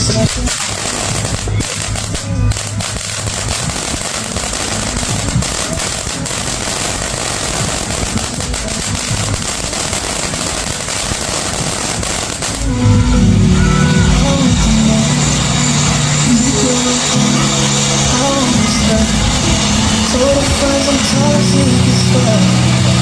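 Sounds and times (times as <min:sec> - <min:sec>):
firework fountain hissing and crackling: 0:00.0 - 0:23.0.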